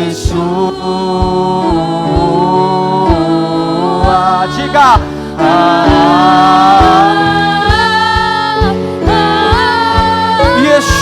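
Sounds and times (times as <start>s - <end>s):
band playing steady beat: 0.0s - 11.0s
gospel singing: 0.0s - 11.0s.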